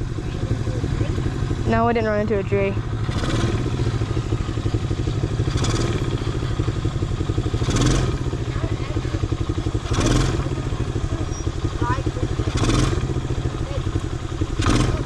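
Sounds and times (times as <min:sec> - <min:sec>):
quad engine puttering: 0:00.0 - 0:15.0.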